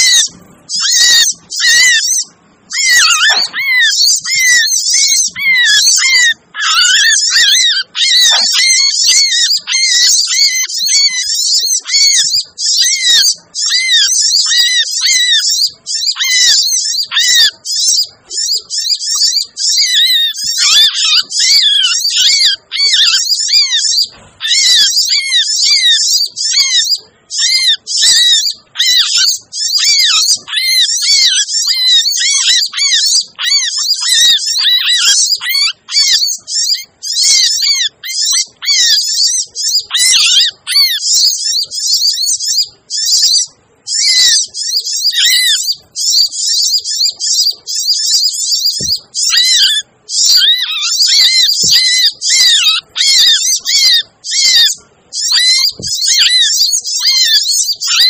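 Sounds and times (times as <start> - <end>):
sunbirds chirping and trilling: 0.0 - 58.0.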